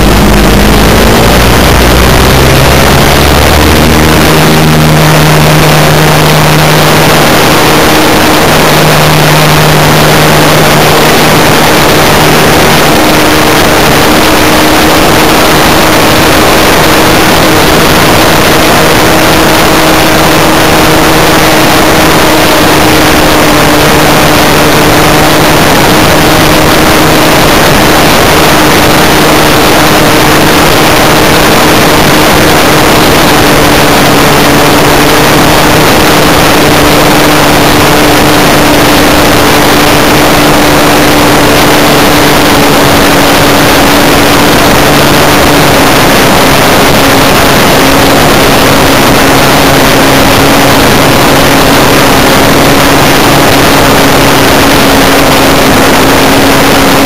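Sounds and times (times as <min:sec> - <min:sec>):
model airplane engine running: 0:00.0 - 0:57.0
rush of air: 0:00.0 - 0:57.0.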